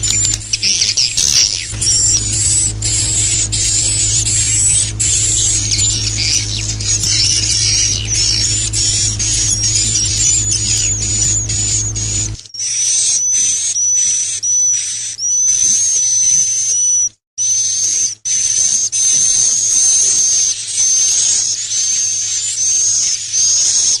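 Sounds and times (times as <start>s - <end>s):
songbird whistled song: 0.0s - 24.0s.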